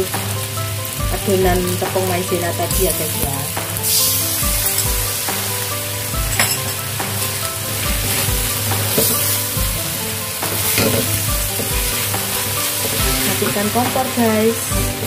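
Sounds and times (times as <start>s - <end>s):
food sizzling in a wok: 0.0s - 15.0s
wooden spatula scraping wok: 2.0s - 15.0s.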